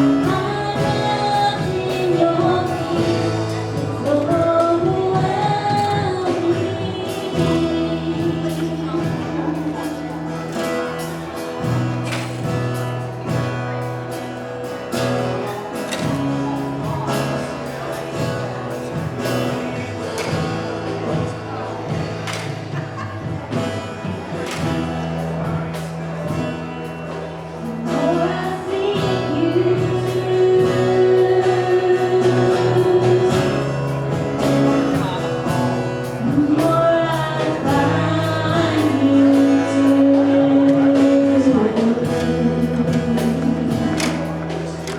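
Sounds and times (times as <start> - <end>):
gospel band playing: 0.0 - 44.9.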